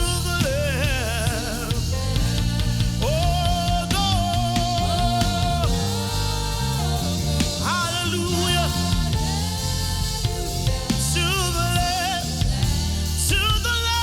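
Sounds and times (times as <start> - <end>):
bass and drum groove: 0.0 - 14.0.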